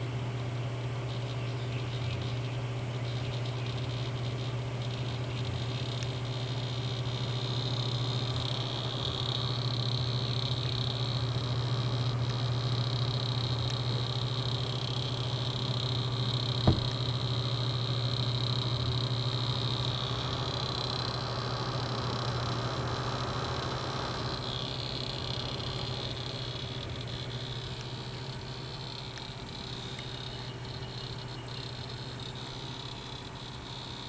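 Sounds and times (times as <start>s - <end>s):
computer low hum: 0.0s - 34.0s.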